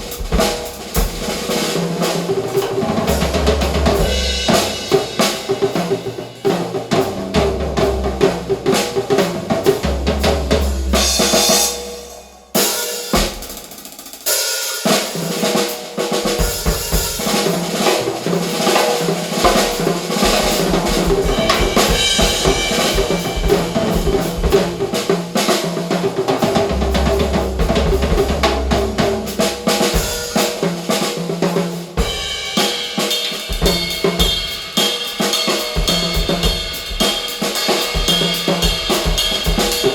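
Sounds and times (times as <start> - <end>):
drum kit playing loud: 0.0 - 39.9.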